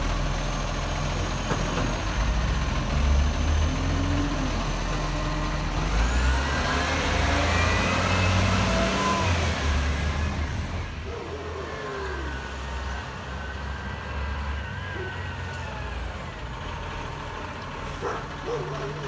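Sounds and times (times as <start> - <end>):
garbage truck diesel engine: 0.0 - 19.0.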